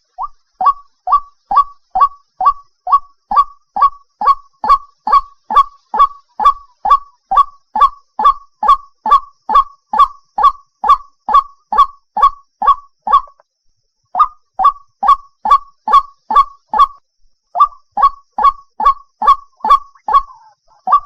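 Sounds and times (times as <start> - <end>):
waterhen calling: 0.0 - 13.3, 14.2 - 17.0, 17.6 - 21.0.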